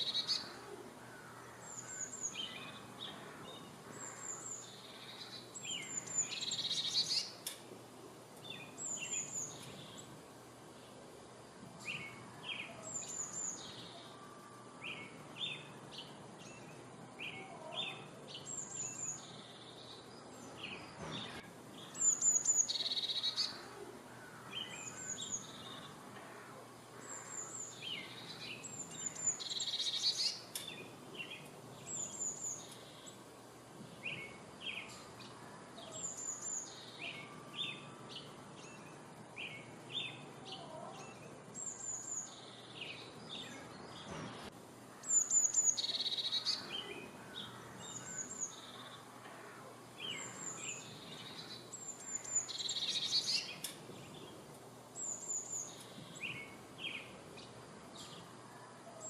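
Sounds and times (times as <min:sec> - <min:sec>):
birds chattering: 0:00.0 - 0:07.7, 0:11.9 - 0:38.9, 0:39.5 - 0:59.0
birds chirping: 0:00.0 - 0:59.0
faint background hiss: 0:00.0 - 0:59.0.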